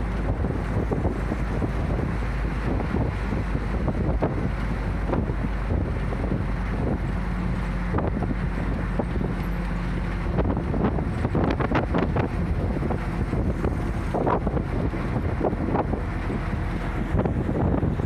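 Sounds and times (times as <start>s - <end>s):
bus engine drone: 0.0s - 18.0s
road noise: 0.0s - 18.0s.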